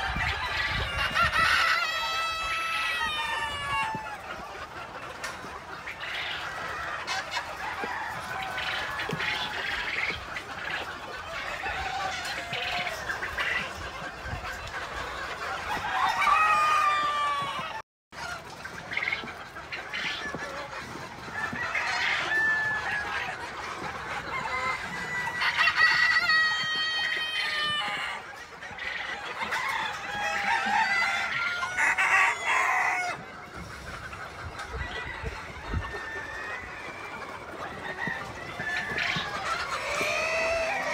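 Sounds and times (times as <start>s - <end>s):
roosters crowing: 0.0s - 4.4s, 6.0s - 13.6s, 15.4s - 18.4s, 19.9s - 40.9s
chickens clucking and cackling: 0.0s - 40.9s.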